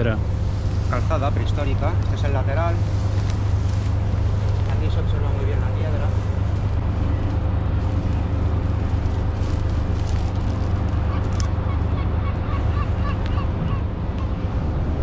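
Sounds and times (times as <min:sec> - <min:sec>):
dry grass rustling: 0:00.0 - 0:12.0
steady low rumble: 0:00.0 - 0:15.0.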